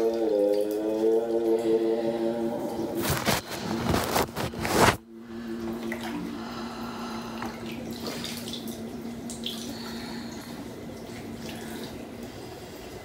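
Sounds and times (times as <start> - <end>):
steady low hum: 0.0 - 13.0
water moving and dripping: 0.0 - 13.0.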